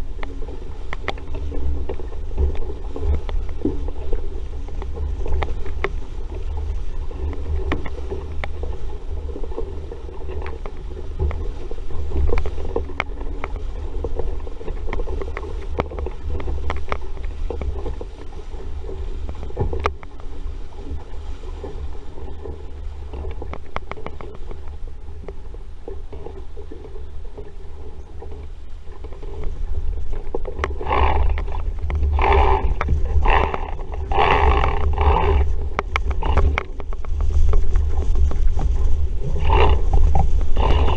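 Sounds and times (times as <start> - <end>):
water rushing along a hull: 0.0 - 40.9
wind rumble on microphone: 0.0 - 40.9.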